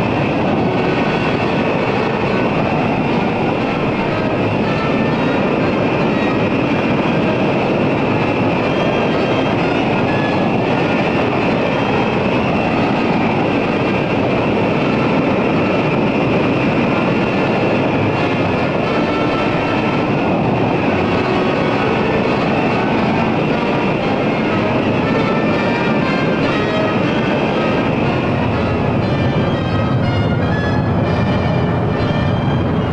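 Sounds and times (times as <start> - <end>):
jet engines running: 0.0 - 32.9.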